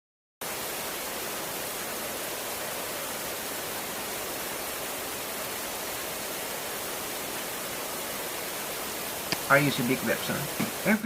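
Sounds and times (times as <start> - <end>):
hiss of water: 0.4 - 11.0.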